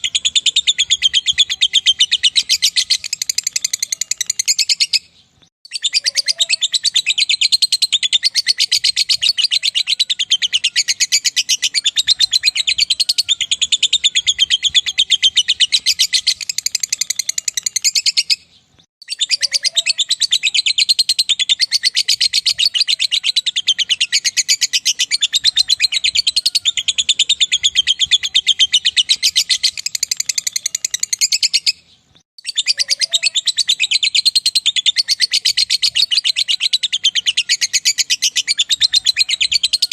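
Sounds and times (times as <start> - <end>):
lovebird chattering trill: 0.0 - 5.1, 5.7 - 39.9.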